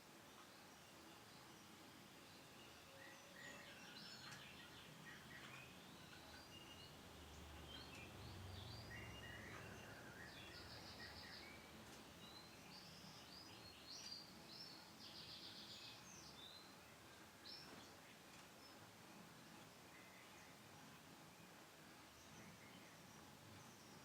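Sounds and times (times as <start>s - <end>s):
steady low hiss: 0.0s - 24.0s.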